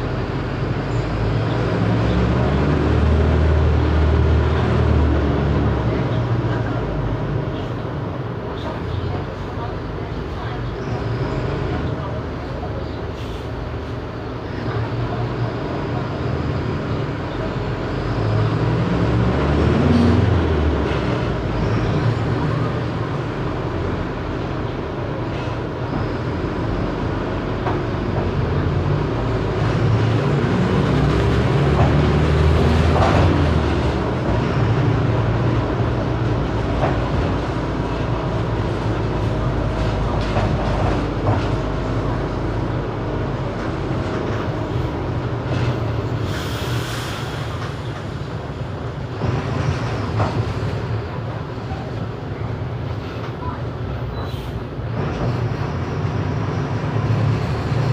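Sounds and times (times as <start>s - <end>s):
bus diesel engine running: 0.0s - 57.9s
bus body rattles and clicks: 3.8s - 46.4s, 47.3s - 57.9s.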